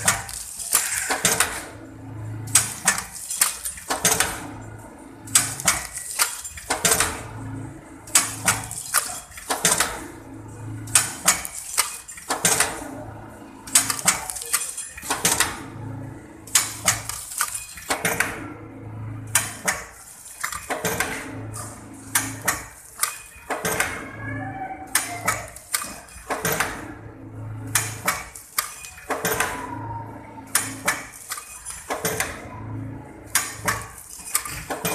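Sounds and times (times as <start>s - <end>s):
packing machine cycling: 0.0s - 34.9s.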